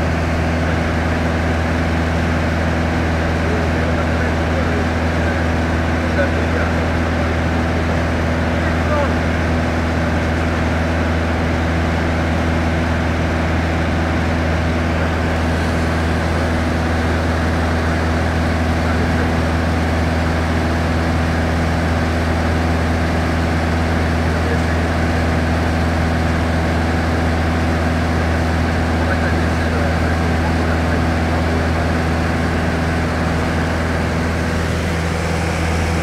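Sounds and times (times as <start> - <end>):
aircraft engine and propeller drone: 0.0 - 36.0.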